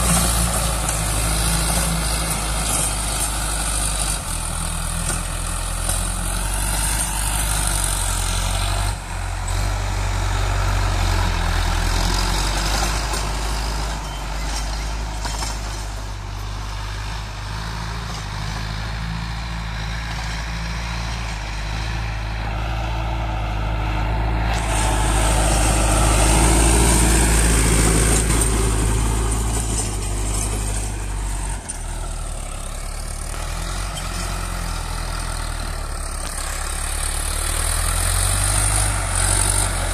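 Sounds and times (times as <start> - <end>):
tractor engine under load: 0.0 - 39.9.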